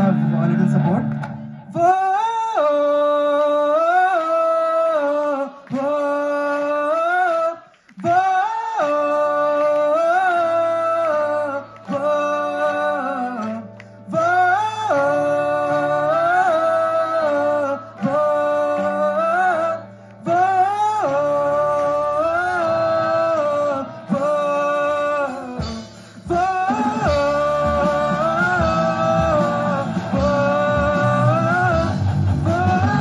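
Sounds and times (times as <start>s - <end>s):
live band: 0.0s - 33.0s.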